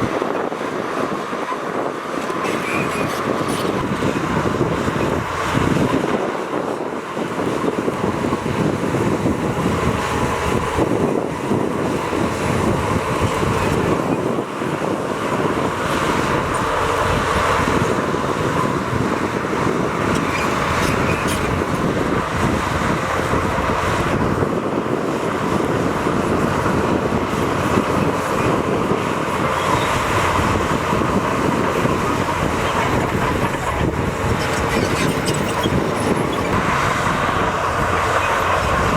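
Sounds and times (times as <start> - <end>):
heavy earthmoving machinery running: 0.0 - 38.9.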